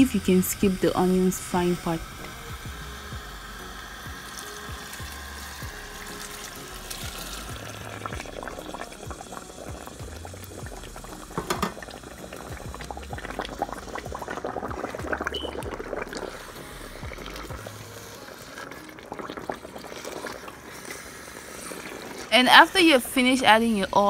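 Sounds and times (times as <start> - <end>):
hot oil hissing and crackling: 0.0 - 24.0.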